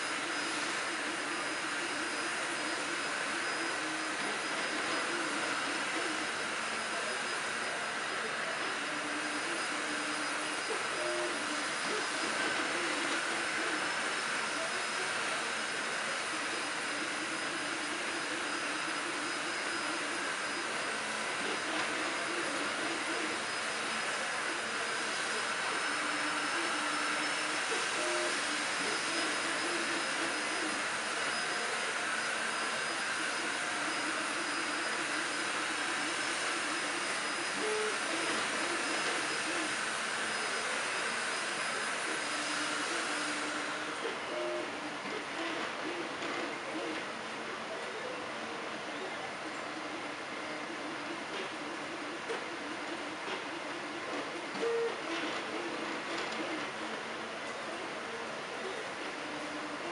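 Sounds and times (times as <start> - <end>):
cooling fans whirring: 0.0 - 59.9
stepper motors whining: 0.0 - 59.9.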